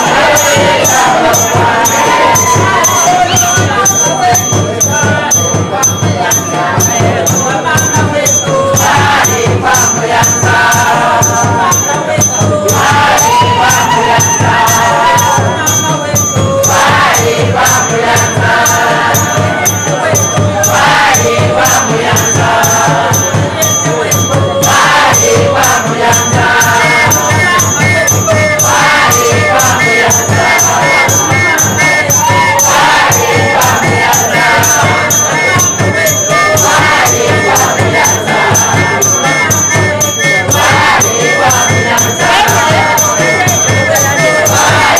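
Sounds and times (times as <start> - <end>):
group singing: 0.0 - 44.9
percussion beat: 0.0 - 44.9
shakers jingling: 0.0 - 44.9.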